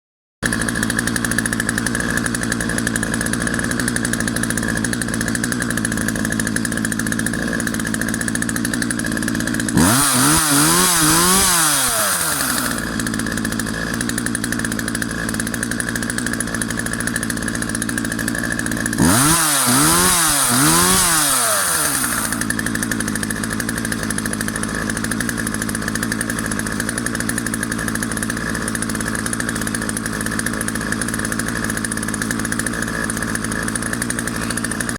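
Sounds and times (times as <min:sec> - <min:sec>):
chainsaw idling and revving: 0:00.4 - 0:34.9.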